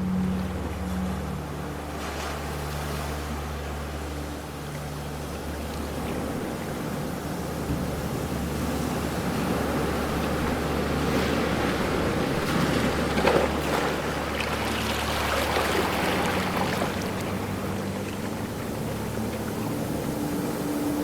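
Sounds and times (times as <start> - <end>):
ocean waves washing ashore: 0.0 - 21.0
steady low hum: 0.0 - 21.0.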